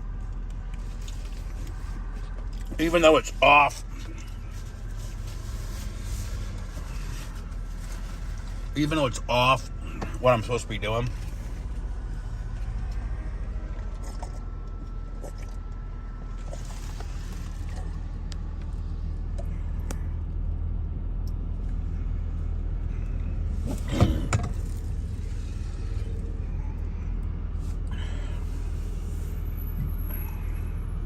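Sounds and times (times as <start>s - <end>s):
car idling hum: 0.0s - 31.0s.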